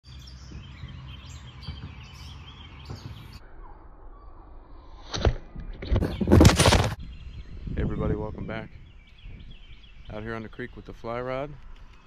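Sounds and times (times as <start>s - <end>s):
songbirds chirping and singing: 0.0s - 4.9s, 5.6s - 12.0s.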